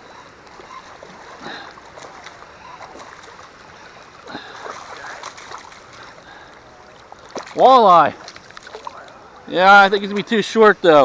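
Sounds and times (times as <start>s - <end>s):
fish splashing in water: 0.0s - 9.2s.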